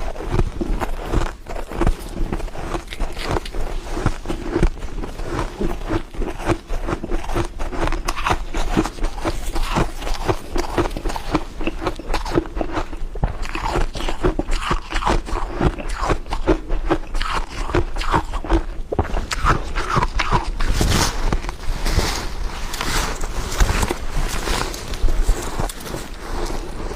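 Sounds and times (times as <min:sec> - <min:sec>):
ice being chewed: 0:00.0 - 0:26.9.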